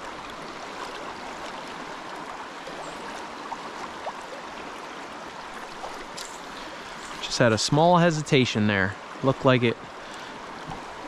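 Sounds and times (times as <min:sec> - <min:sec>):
stream rushing over rocks: 0:00.0 - 0:11.0
water gurgles: 0:00.0 - 0:11.0.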